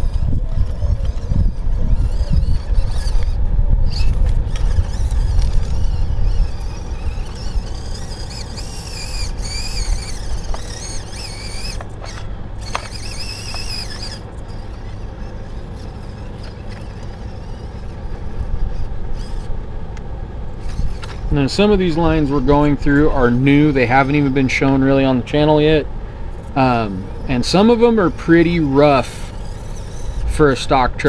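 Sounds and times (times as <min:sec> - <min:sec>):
electric motor and gears whining: 0:00.0 - 0:31.0.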